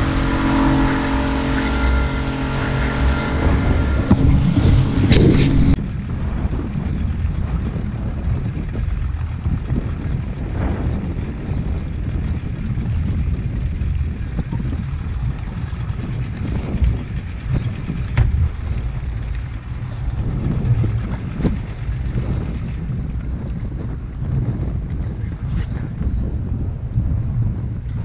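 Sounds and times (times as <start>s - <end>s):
boat engine idling: 0.0s - 28.0s
wind buffeting microphone: 0.0s - 28.0s.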